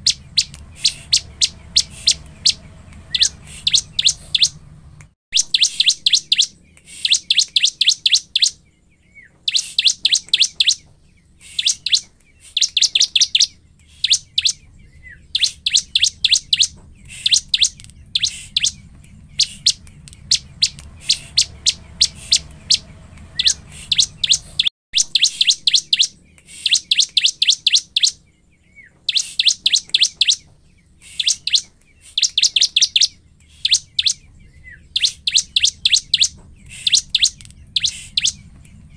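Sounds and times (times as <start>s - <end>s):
bird singing rapid high notes: 0.0s - 38.9s.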